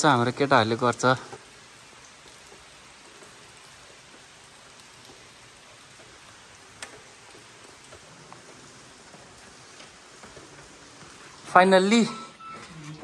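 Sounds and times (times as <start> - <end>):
water running and dripping: 0.0 - 13.0.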